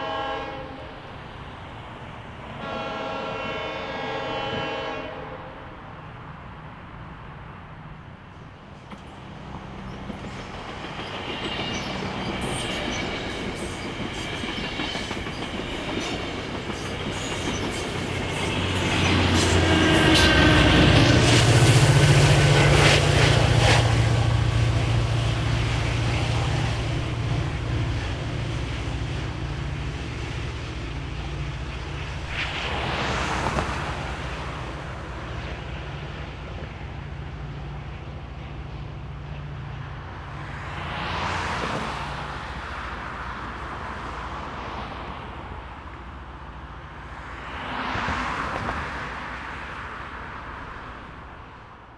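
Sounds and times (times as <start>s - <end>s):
diesel locomotive engine: 0.0s - 51.9s.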